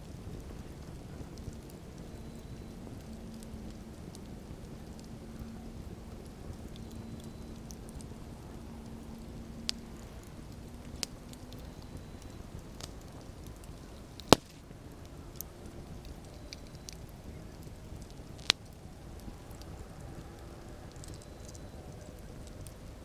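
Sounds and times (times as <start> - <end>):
campfire burning: 0.0 - 23.0
fire crackling pops: 0.0 - 23.0.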